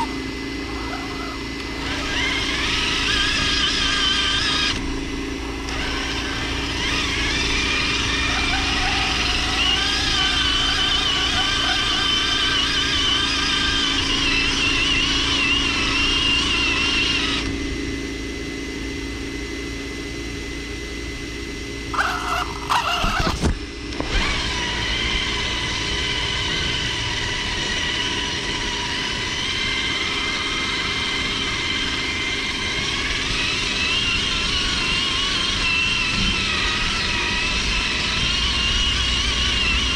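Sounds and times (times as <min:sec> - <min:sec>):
toy truck motor whining: 0:00.0 - 0:17.6, 0:21.9 - 0:39.9.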